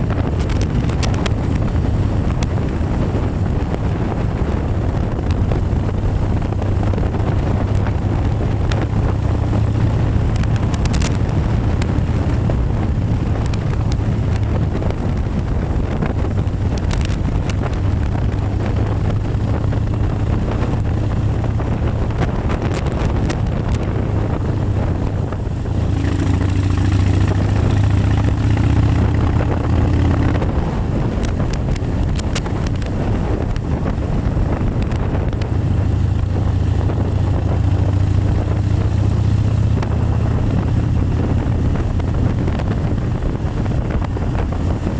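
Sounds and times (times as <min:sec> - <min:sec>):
motorcycle engine running: 0:00.0 - 0:44.9
wind buffeting microphone: 0:00.0 - 0:44.9.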